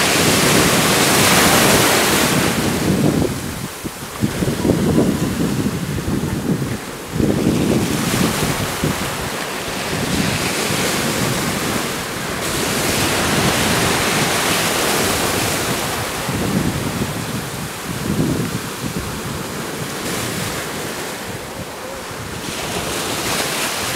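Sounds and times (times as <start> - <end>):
surf hissing up the shore: 0.0 - 23.9
wind buffeting microphone: 0.0 - 23.9.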